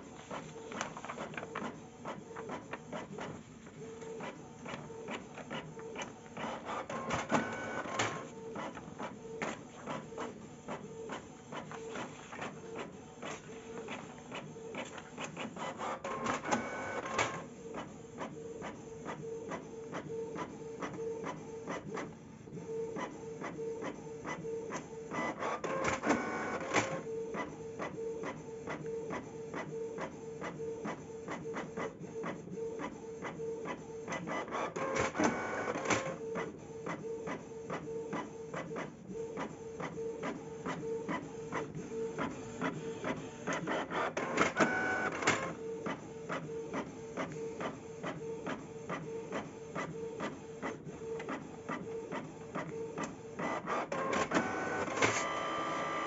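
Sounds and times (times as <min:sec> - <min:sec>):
inkjet printer whirring and clicking: 0:00.0 - 0:56.0.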